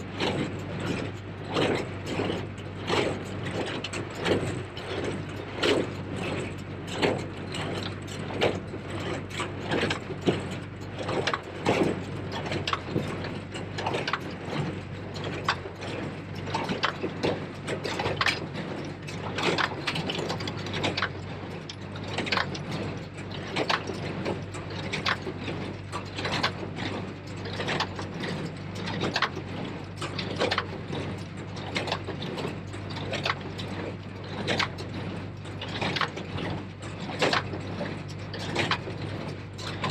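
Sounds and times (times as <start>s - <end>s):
tractor engine hum: 0.0s - 39.9s.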